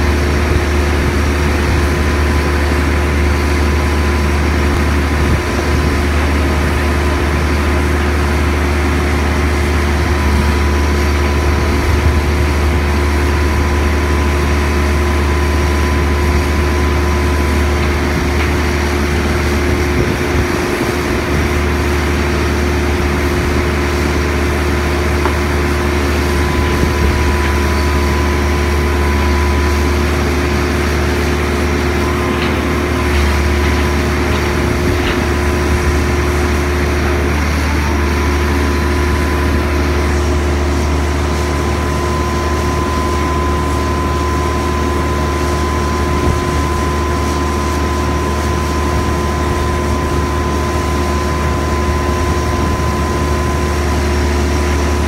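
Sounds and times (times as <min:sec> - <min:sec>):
diesel crane engine droning: 0:00.0 - 0:55.0.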